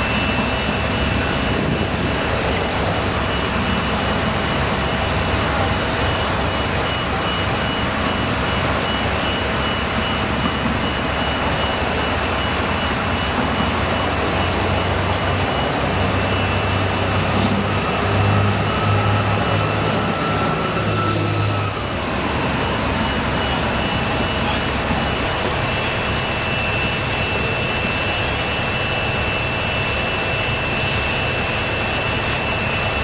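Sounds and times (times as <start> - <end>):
high machine tones: 0.0 - 33.0
loud machine noise: 0.0 - 33.0.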